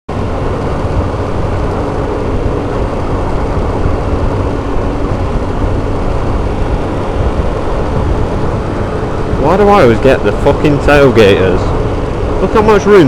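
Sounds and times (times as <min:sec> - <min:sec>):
motorcycle engine droning: 0:00.1 - 0:13.0
wind rush on microphone: 0:00.1 - 0:13.0.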